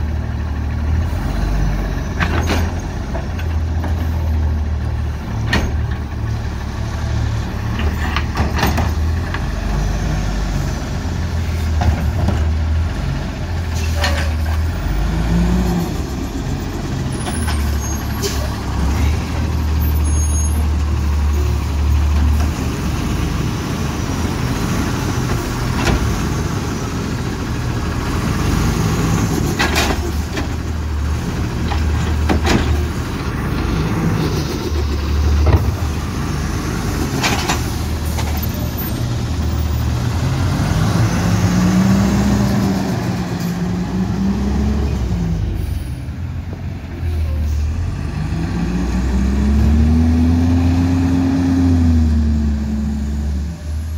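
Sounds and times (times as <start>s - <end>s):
diesel engine revving: 0.0s - 53.9s.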